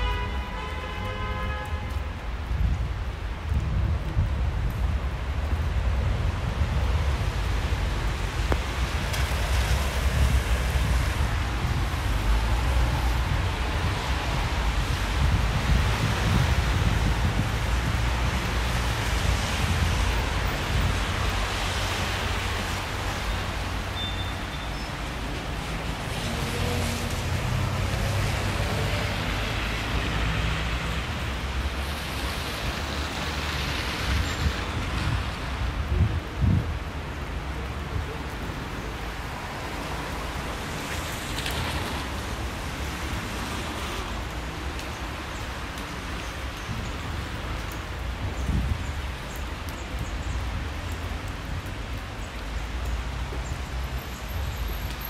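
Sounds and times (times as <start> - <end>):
hiss of wet street: 0.0 - 55.0
wind rumbling on microphone: 1.7 - 55.0.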